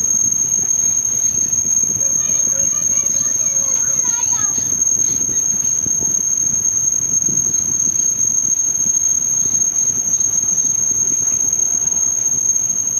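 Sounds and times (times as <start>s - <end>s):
steady high-pitched whine: 0.0s - 12.9s.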